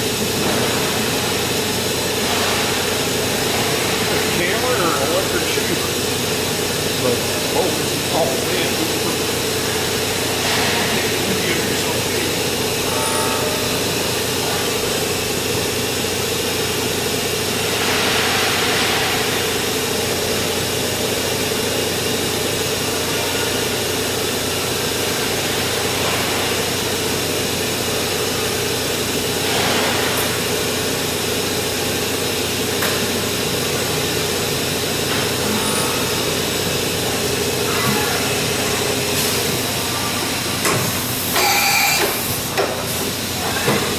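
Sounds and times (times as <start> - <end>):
machining centre humming: 0.0 - 43.9.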